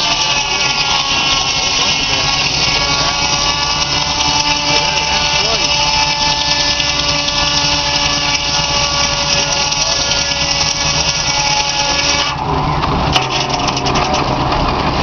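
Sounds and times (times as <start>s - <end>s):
circular saw cutting log: 0.0s - 15.0s
sawmill clicking and knocking: 0.0s - 15.0s.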